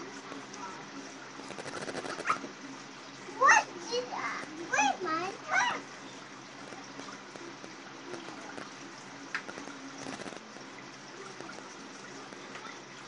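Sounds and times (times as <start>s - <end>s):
aquarium filter trickle and hum: 0.0s - 13.0s.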